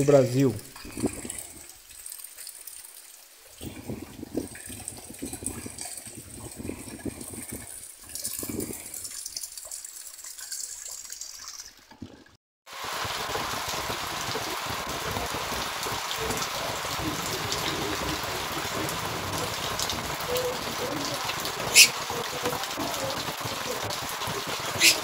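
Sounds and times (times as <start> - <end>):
rain falling: 0.0 - 11.9, 12.7 - 25.0
quiet watery hiss: 0.0 - 12.0, 12.7 - 25.0.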